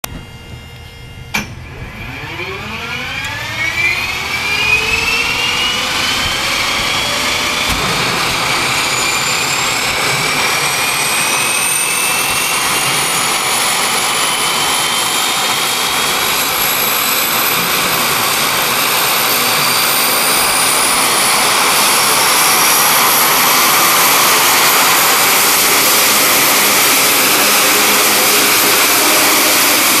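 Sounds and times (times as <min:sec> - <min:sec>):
turboprop engine whine: 0:00.0 - 0:30.0.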